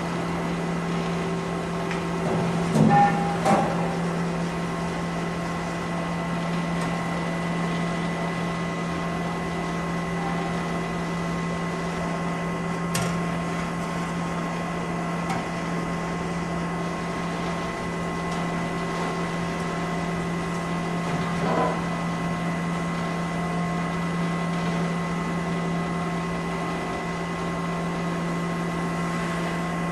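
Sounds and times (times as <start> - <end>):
machinery humming: 0.0 - 29.9.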